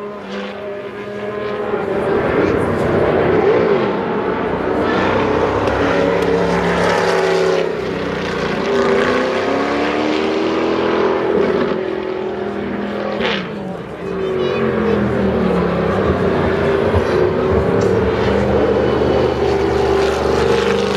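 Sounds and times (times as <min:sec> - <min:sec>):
race car engines passing: 0:00.0 - 0:20.9.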